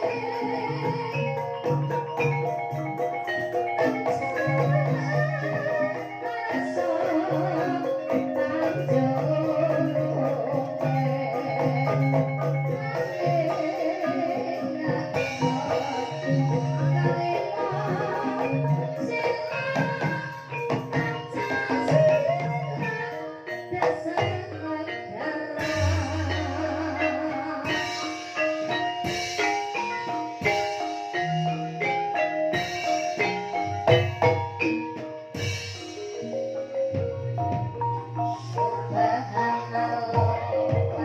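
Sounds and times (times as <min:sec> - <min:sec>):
drum strokes: 0:00.0 - 0:41.0
gamelan ensemble playing: 0:00.0 - 0:41.0.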